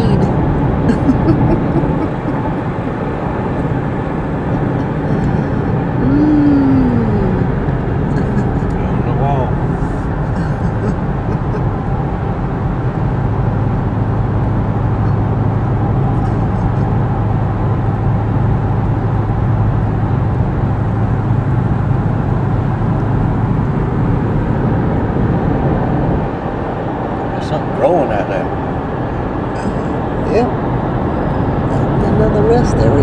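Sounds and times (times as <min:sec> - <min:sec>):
car engine and tyre drone: 0:00.0 - 0:33.0
road noise: 0:00.0 - 0:33.0.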